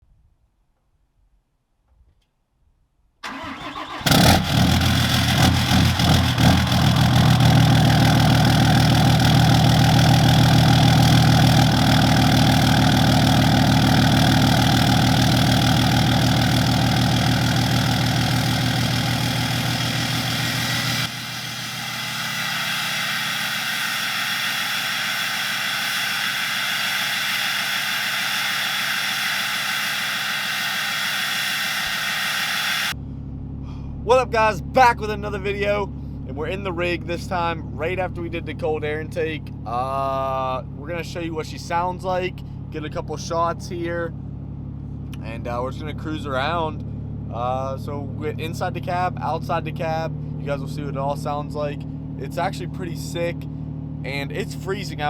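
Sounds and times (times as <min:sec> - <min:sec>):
diesel engine cranking and starting: 0:03.2 - 0:55.0
diesel engine idling: 0:03.2 - 0:55.0.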